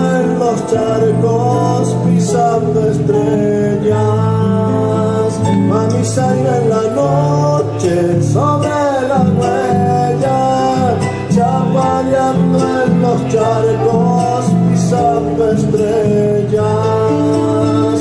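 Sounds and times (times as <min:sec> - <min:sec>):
folk music on acoustic guitars: 0:00.0 - 0:18.0.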